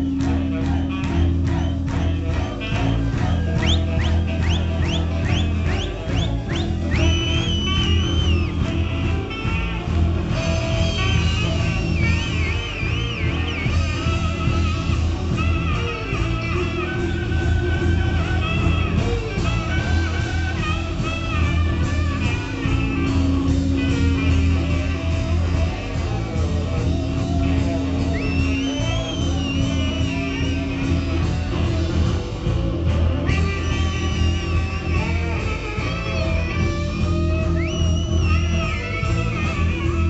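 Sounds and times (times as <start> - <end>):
blues-rock band playing: 0.0 - 40.0.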